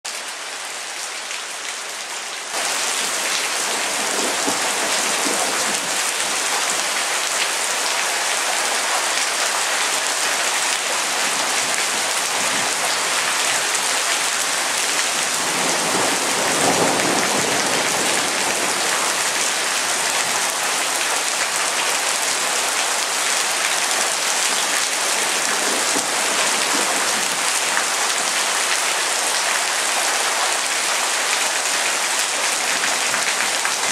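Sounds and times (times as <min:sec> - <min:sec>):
rain on wet paving: 0:00.1 - 0:33.9.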